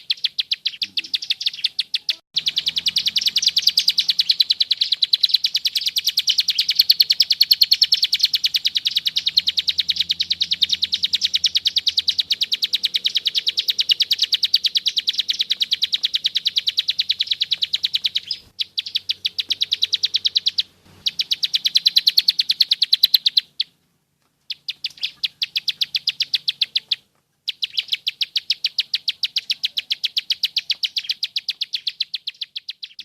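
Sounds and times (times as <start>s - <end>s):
bird singing rapid clicking song: 0.0s - 23.8s, 24.4s - 33.0s.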